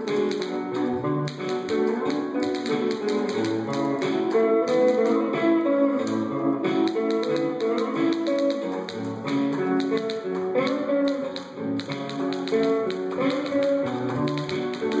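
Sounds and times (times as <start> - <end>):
quick sharp clicks and taps: 0.0 - 5.3, 6.0 - 15.0
plucked-string melody: 0.0 - 15.0.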